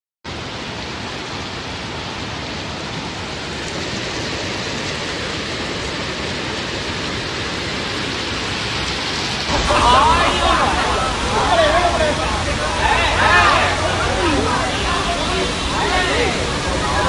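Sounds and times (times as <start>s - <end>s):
floodwater torrent rushing: 0.3s - 17.0s
heavy rain: 0.3s - 17.0s.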